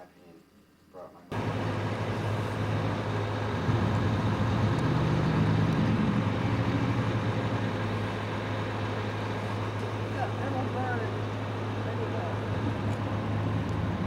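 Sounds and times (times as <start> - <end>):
motor vehicle rumbling: 1.3 - 14.0.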